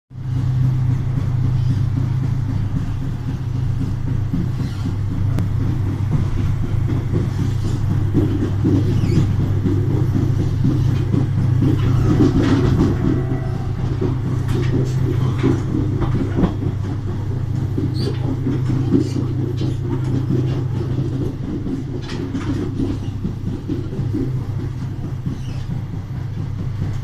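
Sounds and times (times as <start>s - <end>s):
diesel locomotive engine droning: 0.1s - 27.0s
train running rumble: 0.1s - 27.0s.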